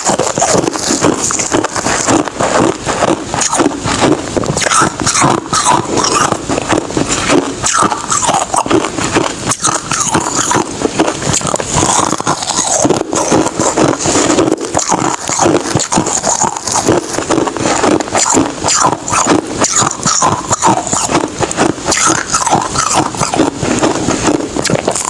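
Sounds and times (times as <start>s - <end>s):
ice crunching while chewed: 0.0s - 25.0s.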